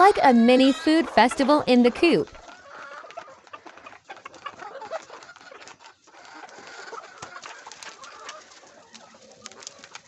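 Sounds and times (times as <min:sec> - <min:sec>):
hens clucking softly: 0:00.0 - 0:10.0
hens pecking beak taps: 0:01.0 - 0:10.0.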